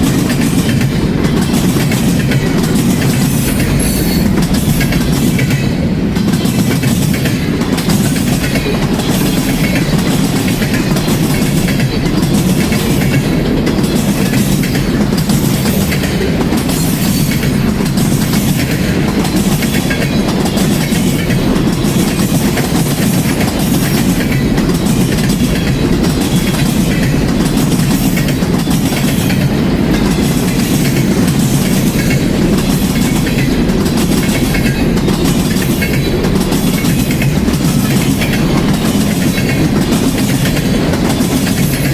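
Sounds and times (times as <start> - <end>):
freight train rumble: 0.0 - 41.9
wheels clacking over rail joints: 0.0 - 41.9.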